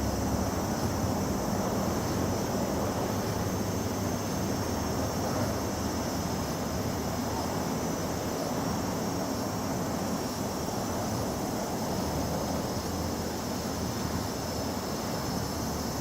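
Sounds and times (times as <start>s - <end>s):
cicadas singing: 0.0s - 16.0s.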